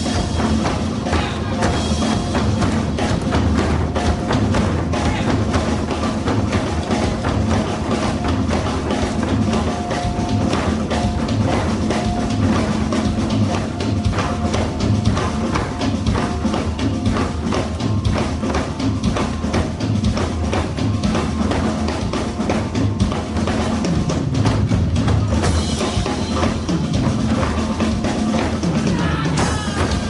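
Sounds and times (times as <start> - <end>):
drum kit playing fast beat: 0.0 - 30.0.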